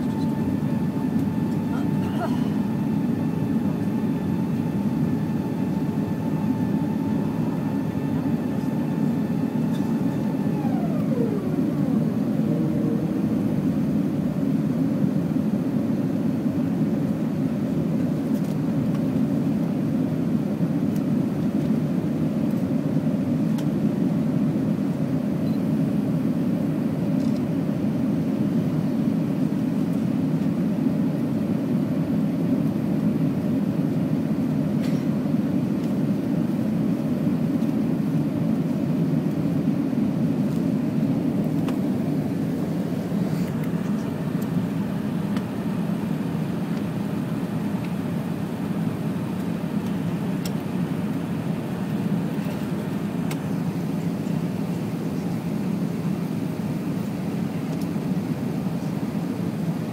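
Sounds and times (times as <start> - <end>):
jet cabin roar: 0.0 - 59.9.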